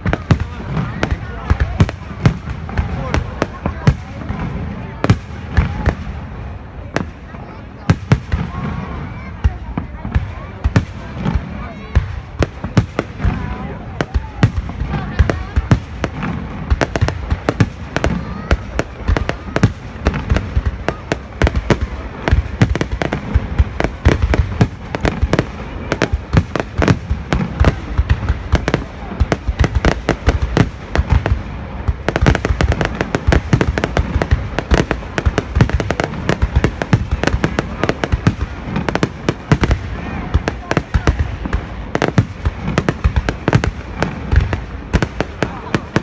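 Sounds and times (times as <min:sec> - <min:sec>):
fireworks bangs and booms: 0:00.0 - 0:46.0.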